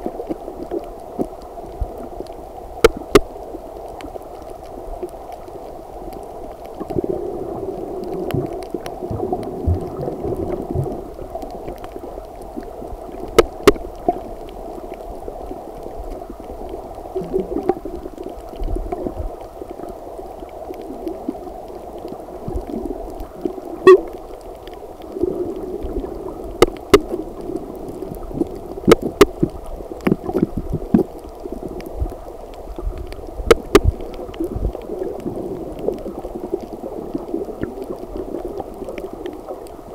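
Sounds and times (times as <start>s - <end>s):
muffled underwater rumble: 0.0s - 39.9s
sharp underwater clicks and cracks: 0.0s - 39.9s.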